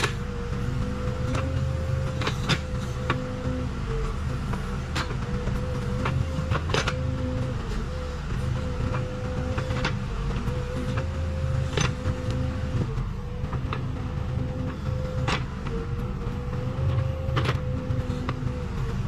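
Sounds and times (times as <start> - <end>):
backhoe diesel engine running: 0.0 - 19.0.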